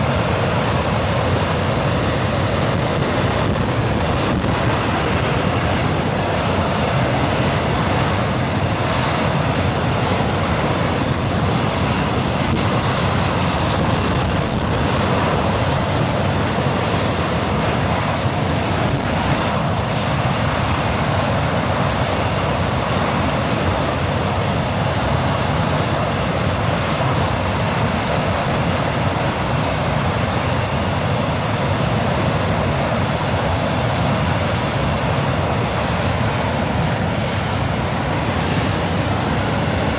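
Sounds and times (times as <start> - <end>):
jet engine running: 0.0 - 39.9.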